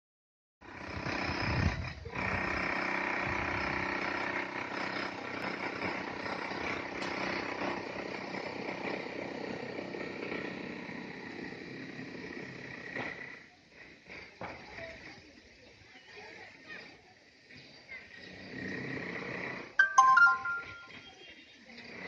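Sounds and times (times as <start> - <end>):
outdoor noise: 0.6 - 22.0.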